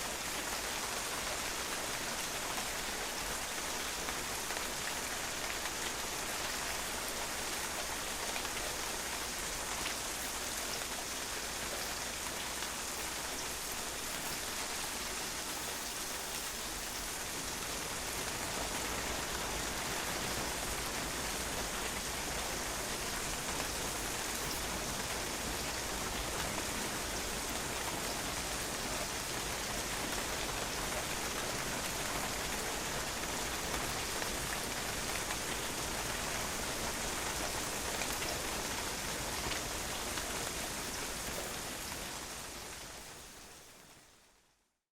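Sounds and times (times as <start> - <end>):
rain splashing on patio: 0.0 - 43.9.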